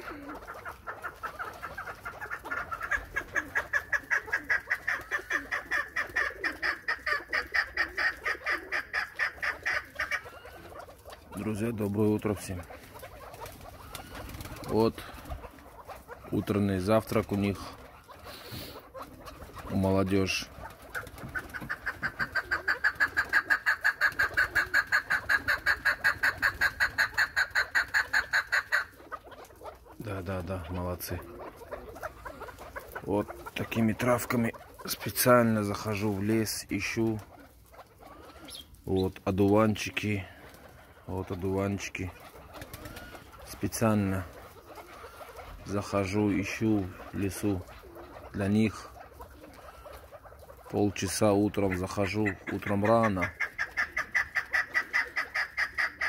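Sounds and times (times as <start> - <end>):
partridge clucking calls: 0.0 - 56.0.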